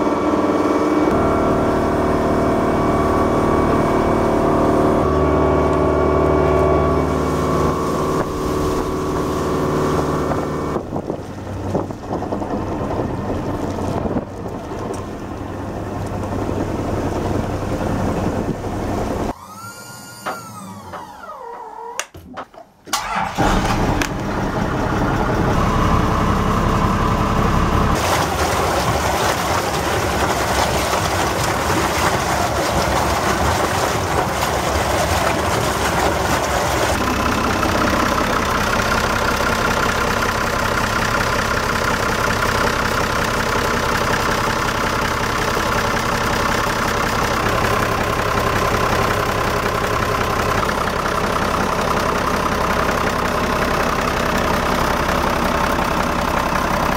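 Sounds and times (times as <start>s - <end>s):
diesel engine starting and idling: 0.0s - 22.0s, 22.7s - 56.9s.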